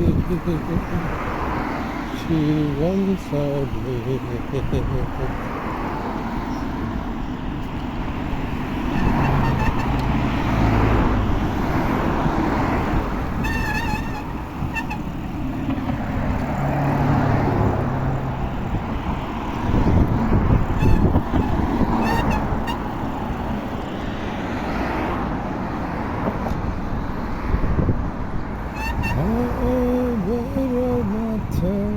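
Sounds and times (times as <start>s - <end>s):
traffic rumble: 0.0s - 31.9s.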